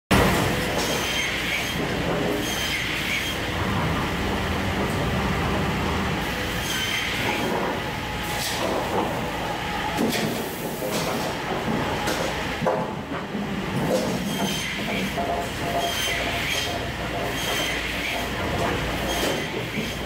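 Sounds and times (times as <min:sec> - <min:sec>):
saw line feed rollers running: 0:00.1 - 0:20.0.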